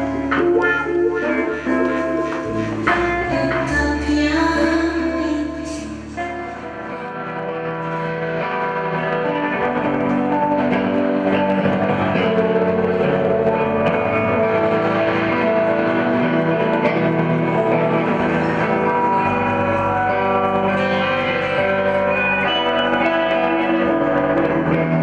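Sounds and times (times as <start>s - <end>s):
live band with guitar: 0.0s - 25.0s.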